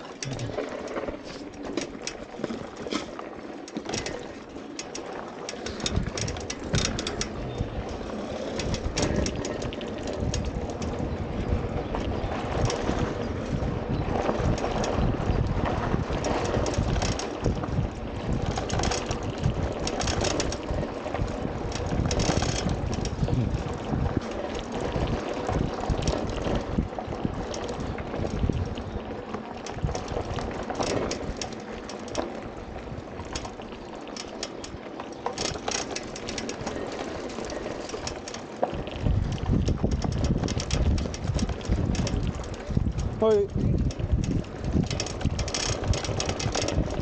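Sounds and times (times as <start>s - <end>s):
scooter knocks and rattles: 0.0s - 11.2s, 14.1s - 28.6s, 29.6s - 32.4s, 33.2s - 47.0s
wind buffeting microphone: 3.8s - 47.0s.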